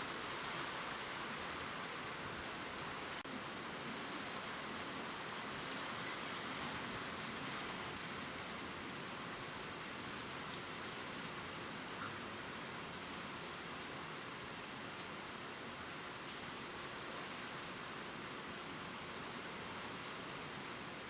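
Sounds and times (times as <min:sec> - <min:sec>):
gentle rain falling on leaves: 0:00.0 - 0:21.0.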